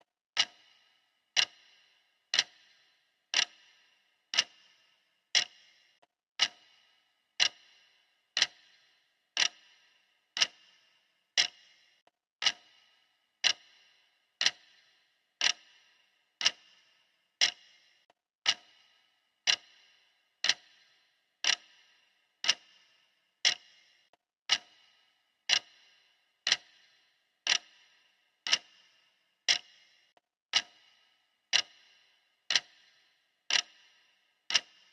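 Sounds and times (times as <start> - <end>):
clock ticking: 0.0 - 34.9.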